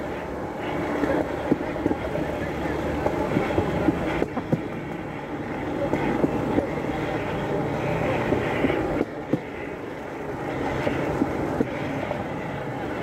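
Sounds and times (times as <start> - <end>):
rail speeder engine drone: 0.0 - 13.0
wheels knocking on rails: 0.7 - 13.0.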